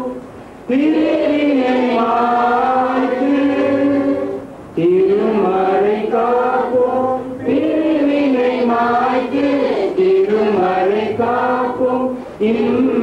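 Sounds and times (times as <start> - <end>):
choir singing a slow hymn: 0.0 - 13.0.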